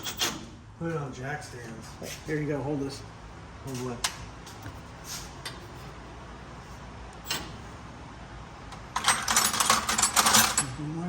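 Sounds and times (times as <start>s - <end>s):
low shop background: 0.0s - 11.0s.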